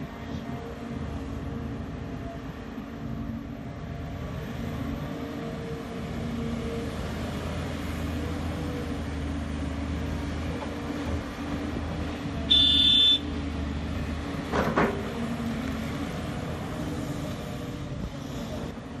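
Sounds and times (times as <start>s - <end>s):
excavator diesel engine under load: 0.0s - 19.0s.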